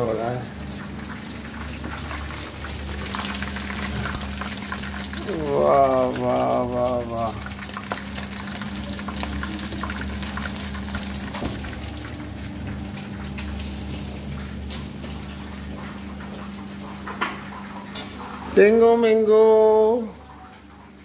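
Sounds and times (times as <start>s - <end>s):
chicken frying in oil: 0.0s - 21.0s.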